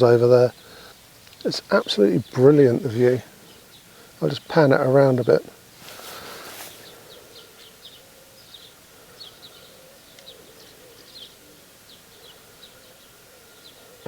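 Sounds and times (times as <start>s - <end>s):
small bird chirping: 0.0s - 5.6s, 6.5s - 14.0s.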